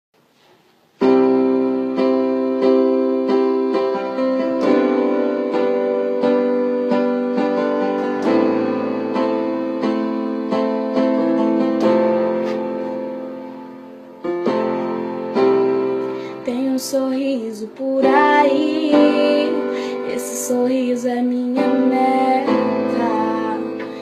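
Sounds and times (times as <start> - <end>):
piano playing chords: 0.9 - 24.0.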